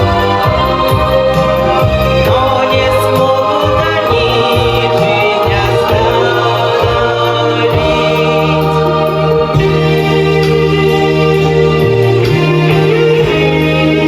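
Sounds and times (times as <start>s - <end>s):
bass line: 0.0s - 14.0s
voices singing: 0.0s - 14.0s.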